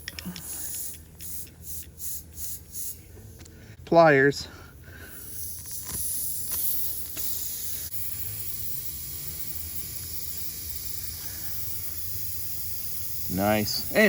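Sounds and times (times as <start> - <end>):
air hissing out of a tire: 0.0 - 3.8, 4.8 - 14.0.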